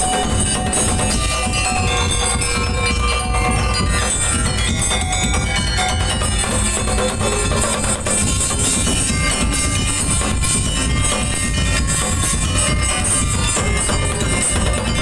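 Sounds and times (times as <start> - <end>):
drums: 0.0 - 15.0
jingling percussion: 0.0 - 15.0.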